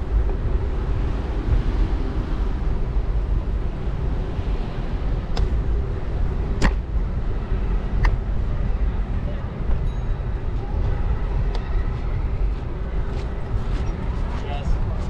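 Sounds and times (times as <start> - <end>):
wind and riding noise: 0.0 - 15.0.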